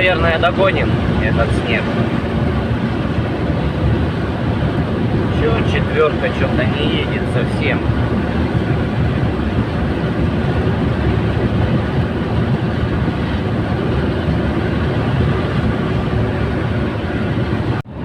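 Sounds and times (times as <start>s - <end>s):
road noise: 0.0s - 18.0s
truck diesel engine rumble: 0.0s - 18.0s.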